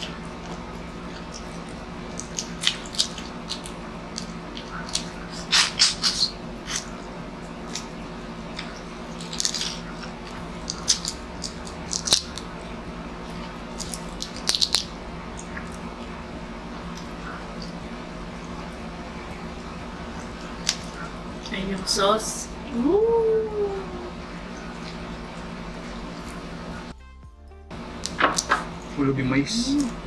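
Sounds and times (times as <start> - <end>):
chewing seafood: 0.0 - 26.9, 27.7 - 30.0
low hum: 0.0 - 27.0, 27.7 - 30.0.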